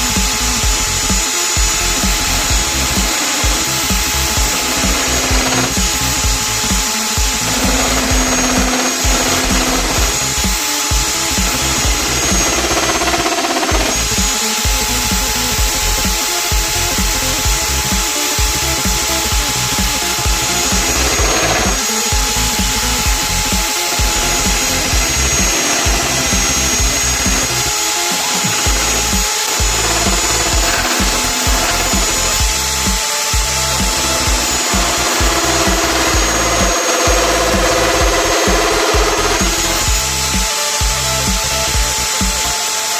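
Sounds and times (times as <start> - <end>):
background music: 0.0 - 42.9
electric drill motor whining: 0.0 - 42.9.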